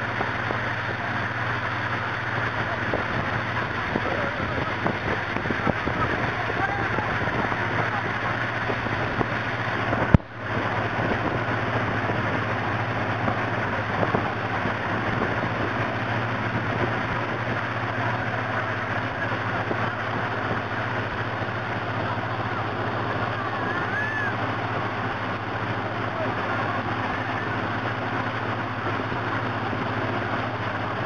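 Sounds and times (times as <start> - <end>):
churning wake water: 0.0 - 31.0
motorboat engine drone: 0.0 - 31.0
wind: 0.0 - 31.0.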